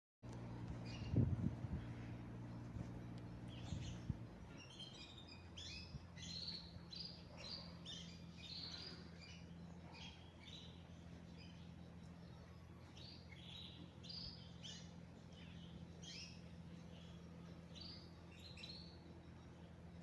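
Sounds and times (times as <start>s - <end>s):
faint low hum: 0.2s - 20.0s
small birds chirping: 0.2s - 20.0s.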